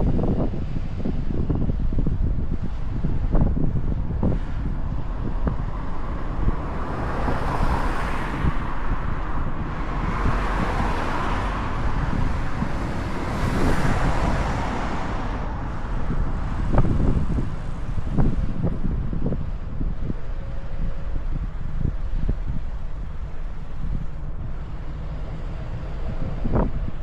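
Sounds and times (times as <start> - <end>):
passing vehicles: 0.0 - 27.0
road noise: 0.0 - 27.0
wind buffeting microphone: 0.0 - 27.0.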